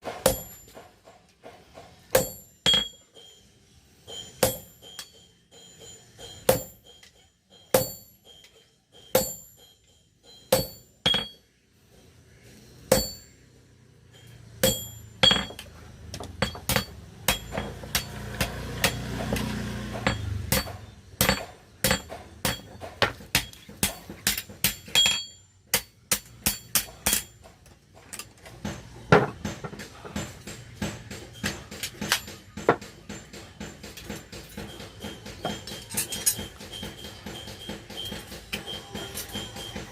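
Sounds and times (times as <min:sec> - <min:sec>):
hammer striking metal: 0:00.0 - 0:11.6, 0:12.9 - 0:13.5, 0:14.1 - 0:39.9.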